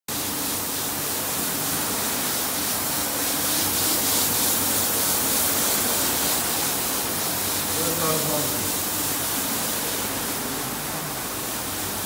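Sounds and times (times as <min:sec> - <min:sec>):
water spraying hiss: 0:00.1 - 0:12.0.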